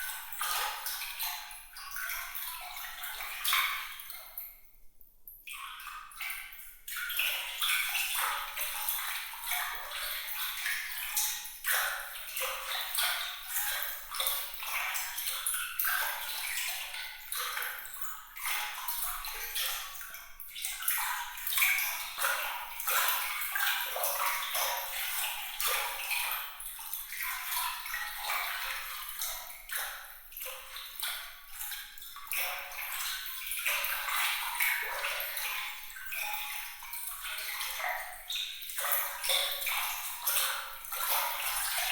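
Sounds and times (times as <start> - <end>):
water trickling and dripping: 0.0 - 41.9.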